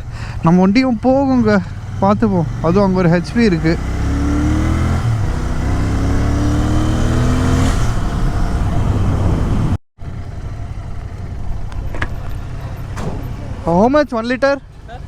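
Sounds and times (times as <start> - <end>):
engine and road rumble: 0.0 - 15.0
motorcycle engine accelerating: 0.0 - 15.0.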